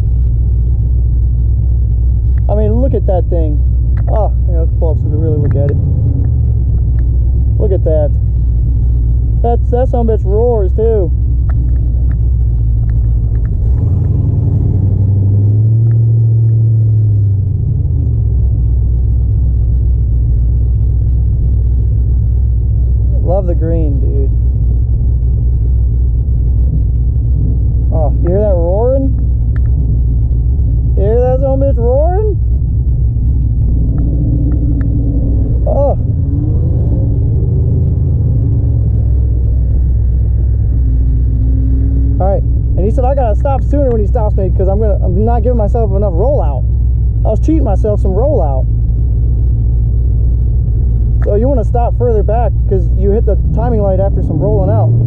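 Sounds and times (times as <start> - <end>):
pickup truck engine rumbling: 0.0 - 55.0.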